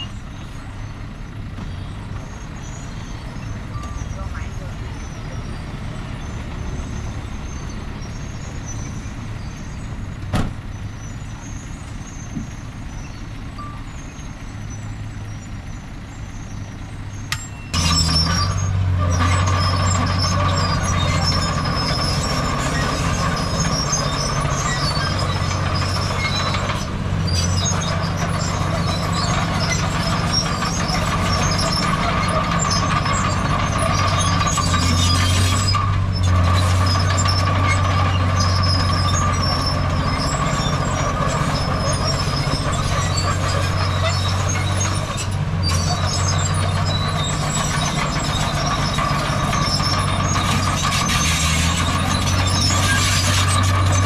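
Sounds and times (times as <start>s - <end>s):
heavy machinery diesel engines droning: 0.0s - 54.0s.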